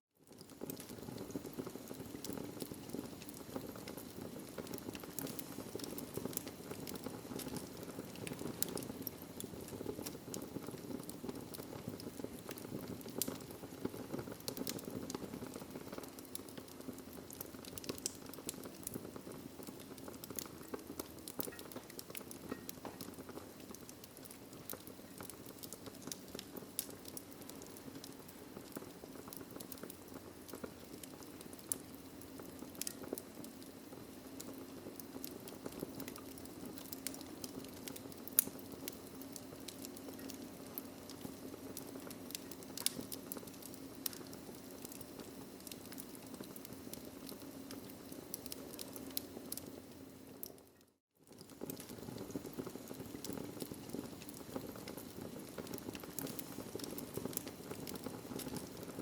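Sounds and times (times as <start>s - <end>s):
wood fire crackling: 0.2s - 59.0s.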